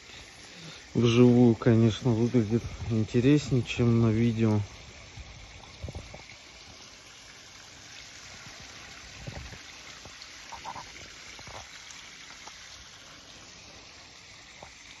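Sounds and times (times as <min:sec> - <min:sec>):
water trickling over stones: 0:00.0 - 0:15.0.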